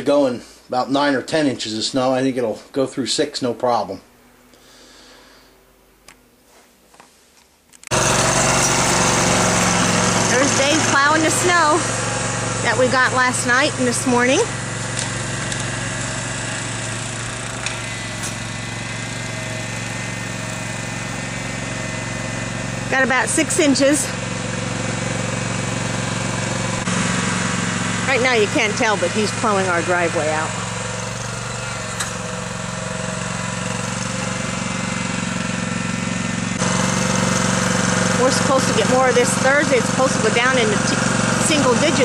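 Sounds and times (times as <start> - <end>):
garden tractor engine running: 7.8 - 42.0.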